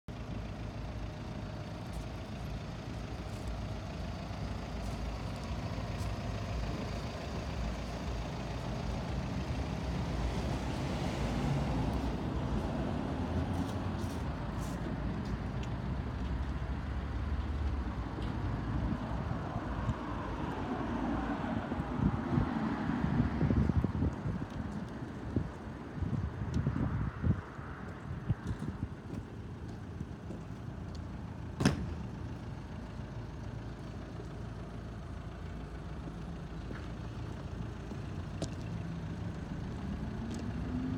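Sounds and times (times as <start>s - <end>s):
motor vehicle rumble: 0.1s - 40.9s.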